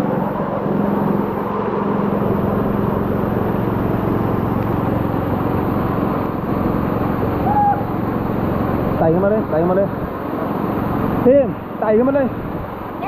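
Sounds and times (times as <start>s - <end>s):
waterfall roaring: 2.1s - 13.0s.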